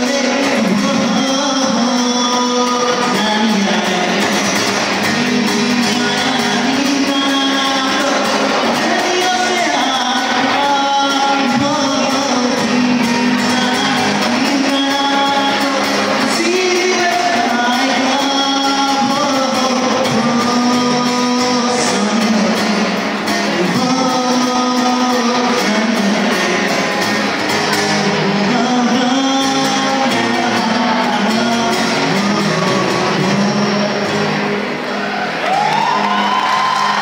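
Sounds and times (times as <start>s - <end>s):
man singing: 0.0s - 34.6s
acoustic guitar: 0.0s - 37.0s.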